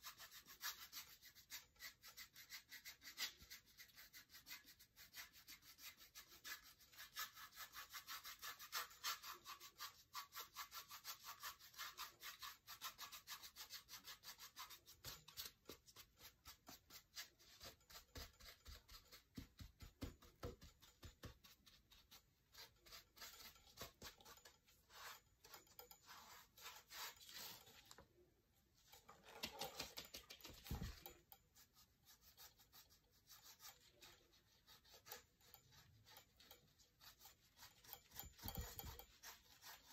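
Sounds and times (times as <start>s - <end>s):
paintbrush scrubbing and dabbing: 0.0s - 39.9s.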